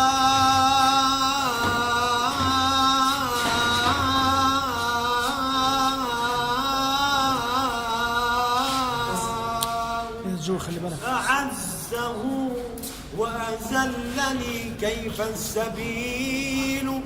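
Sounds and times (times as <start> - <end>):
man singing melismatic phrase: 0.0 - 17.0.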